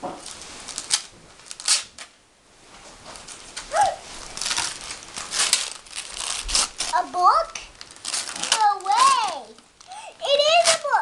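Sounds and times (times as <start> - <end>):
wrapping paper crinkling and tearing: 0.2 - 2.1, 3.1 - 11.0.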